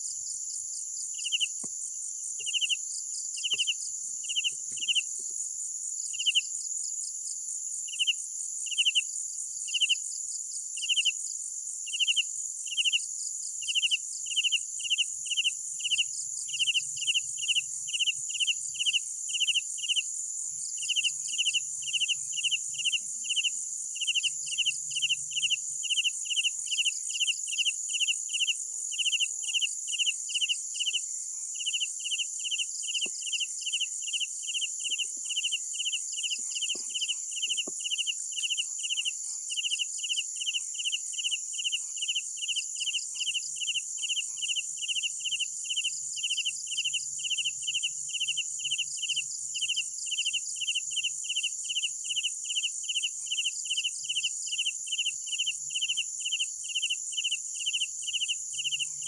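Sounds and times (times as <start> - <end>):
crickets trilling: 0.0 - 6.9, 11.8 - 59.0
cricket chirping: 0.0 - 59.0.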